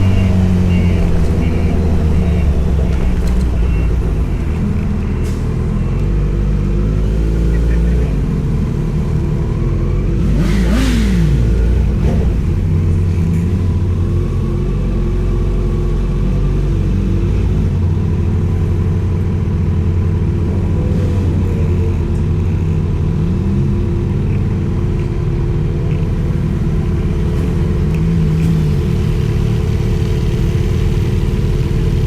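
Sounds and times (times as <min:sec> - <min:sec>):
motorcycle engine running: 0:00.0 - 0:07.0, 0:07.6 - 0:32.0.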